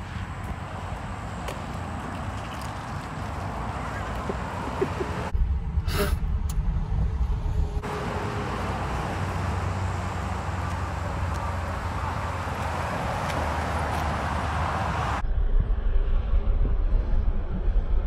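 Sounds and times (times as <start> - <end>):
car rumble and hiss: 0.0 - 15.2.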